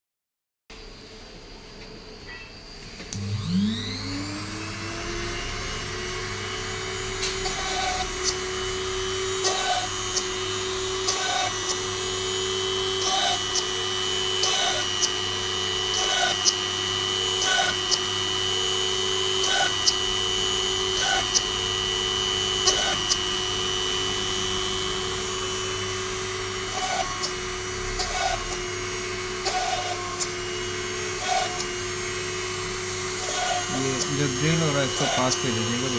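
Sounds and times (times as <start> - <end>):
small motor whining: 3.0 - 35.9.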